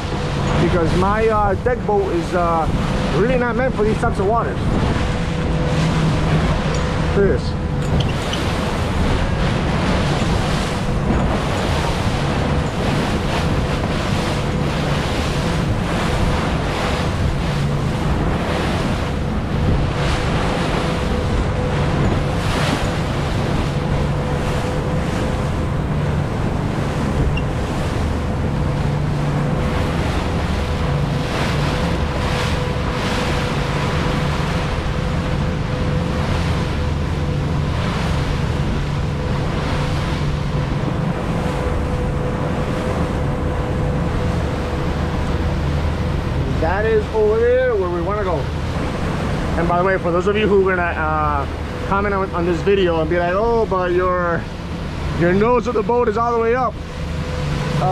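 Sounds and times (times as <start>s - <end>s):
boat engine hum: 0.0s - 57.9s
water splashing against hull: 0.0s - 57.9s
wind rushing over microphone: 0.0s - 57.9s.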